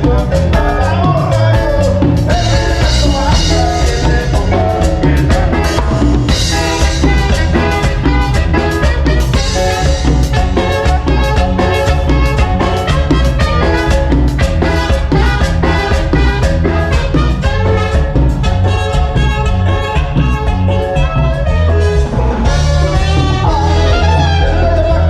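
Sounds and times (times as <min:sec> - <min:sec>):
drum kit and percussion beat: 0:00.0 - 0:25.0
live cumbia band playing: 0:00.0 - 0:25.0.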